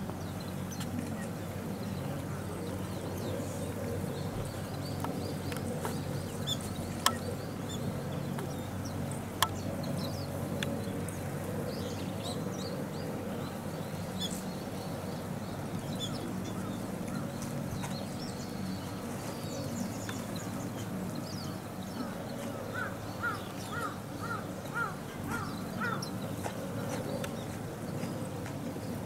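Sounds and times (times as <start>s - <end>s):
birds chirping: 0.0s - 29.0s
low background hum: 0.0s - 29.0s.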